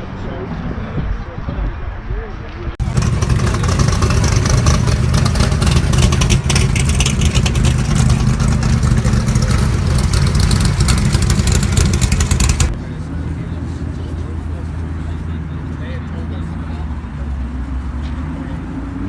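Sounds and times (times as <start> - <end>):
car engine drone with crackle: 2.8 - 19.0.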